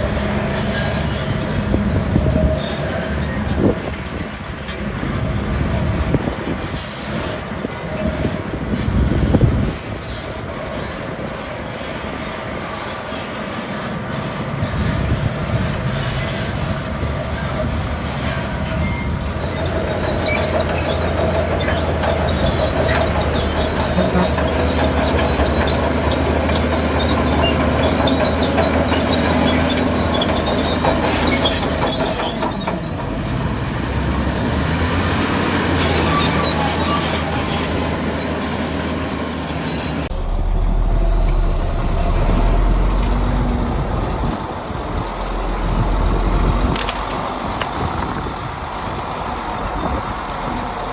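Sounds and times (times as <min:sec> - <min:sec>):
bulldozer diesel engine running: 0:00.0 - 0:50.9
metallic track clatter and squeal: 0:00.0 - 0:50.9.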